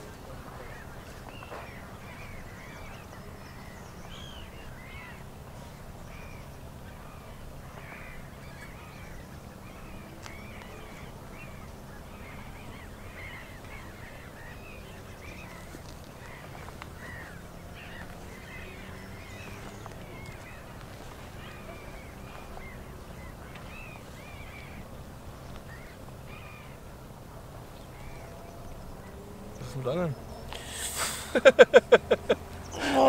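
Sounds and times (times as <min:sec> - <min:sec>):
flock of birds chattering: 0:00.0 - 0:33.0.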